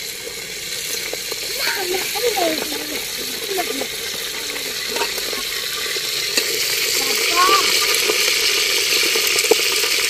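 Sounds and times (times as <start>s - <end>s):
sizzling in a metal pot: 0.0s - 10.0s.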